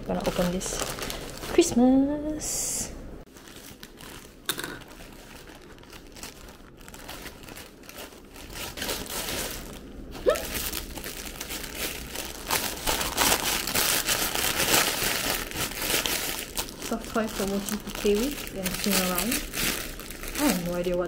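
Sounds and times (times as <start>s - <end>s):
wrapping paper tearing: 0.0s - 1.7s, 3.3s - 21.0s
plastic packaging crinkling: 0.0s - 2.4s, 3.3s - 21.0s.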